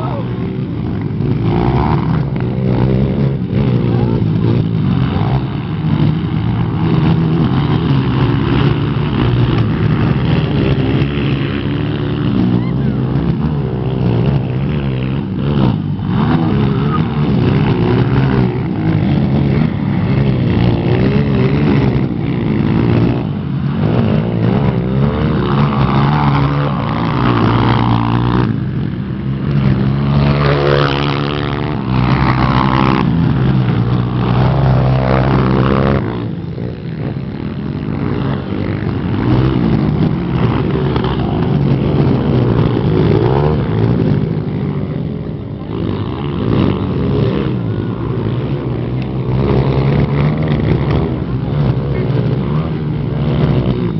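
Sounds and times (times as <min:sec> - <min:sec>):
motocross motorcycle engines racing: 0:00.0 - 0:53.9.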